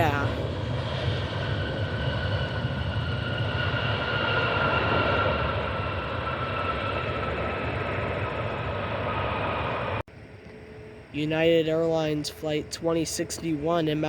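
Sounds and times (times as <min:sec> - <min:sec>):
jet aircraft passing: 0:00.0 - 0:14.0.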